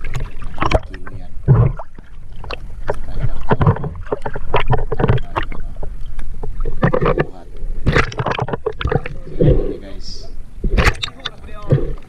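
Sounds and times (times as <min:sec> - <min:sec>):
water gurgling: 0:00.0 - 0:12.0
water splashing and sloshing: 0:00.0 - 0:12.0.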